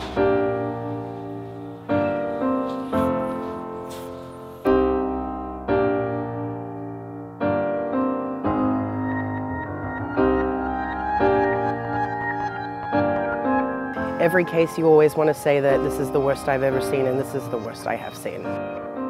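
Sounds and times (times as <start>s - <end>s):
slow soft piano music: 0.0s - 19.0s.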